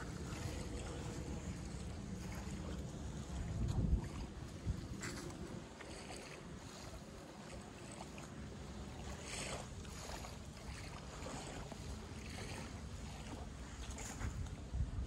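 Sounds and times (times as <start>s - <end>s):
wind buffeting microphone: 0.0s - 7.3s, 9.0s - 15.0s.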